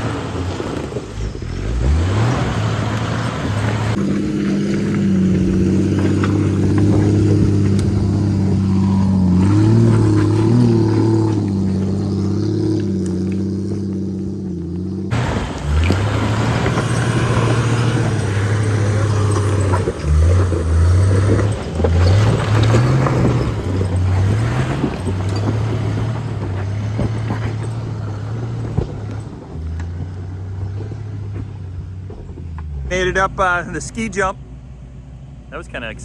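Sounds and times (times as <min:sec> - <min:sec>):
off-road vehicle engine revving: 0:00.0 - 0:36.0
tyre and trail noise: 0:00.0 - 0:36.0.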